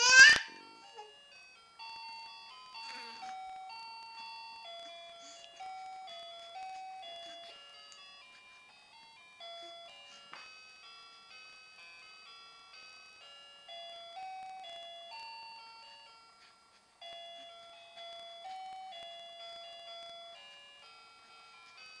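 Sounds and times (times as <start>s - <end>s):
baby mobile chiming lullaby: 0.0s - 22.0s.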